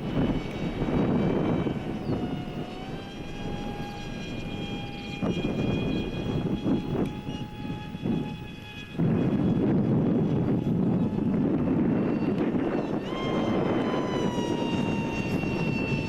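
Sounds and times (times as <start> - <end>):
model jet motor whining: 0.0 - 16.0
wind rumbling on microphone: 0.0 - 16.0.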